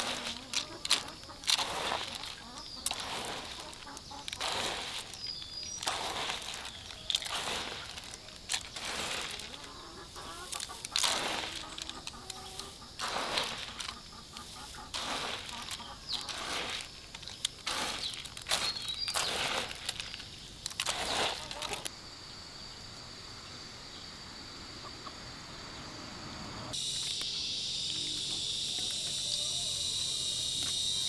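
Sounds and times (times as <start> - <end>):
chickens clucking: 0.0 - 20.1, 20.8 - 21.9, 24.7 - 25.9, 26.6 - 31.0.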